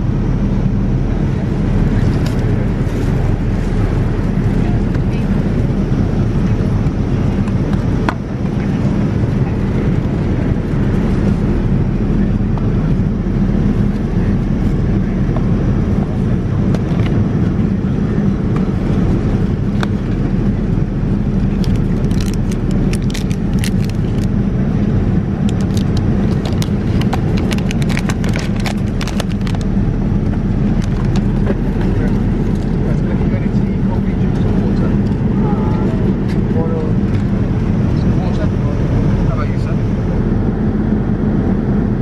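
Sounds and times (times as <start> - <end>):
airliner cabin roar: 0.0 - 42.0.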